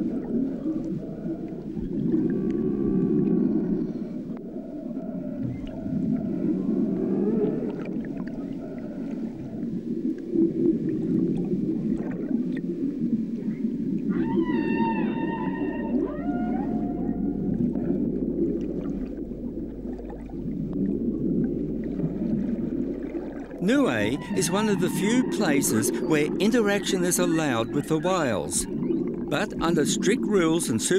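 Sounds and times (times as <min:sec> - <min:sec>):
low water noise: 0:00.0 - 0:30.9
whale calls underwater: 0:00.0 - 0:30.9.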